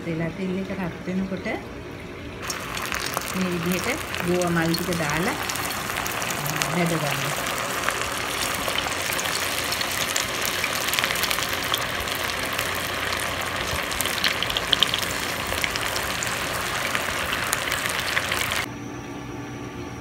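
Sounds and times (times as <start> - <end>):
deep-frying sizzle with pops: 2.4 - 18.7.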